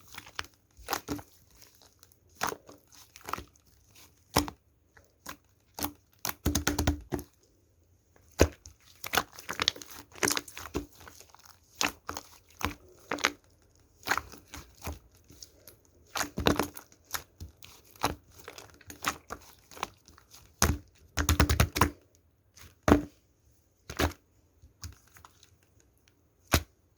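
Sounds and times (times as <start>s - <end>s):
slime squished by hand: 0.0s - 7.5s, 8.2s - 23.2s, 23.8s - 26.9s.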